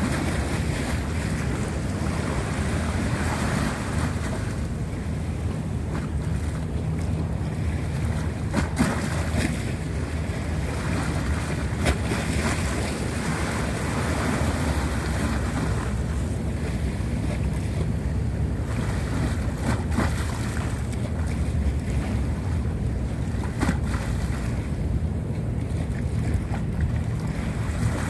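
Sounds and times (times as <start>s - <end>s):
sea waves washing on shore: 0.0s - 28.0s.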